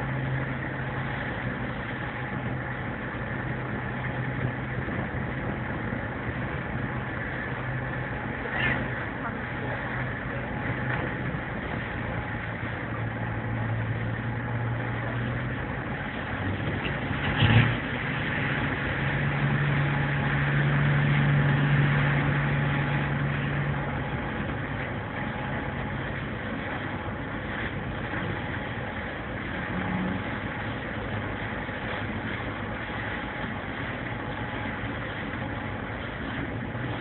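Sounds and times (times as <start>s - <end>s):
boat engines droning: 0.0s - 37.0s
churning wake water: 0.0s - 37.0s.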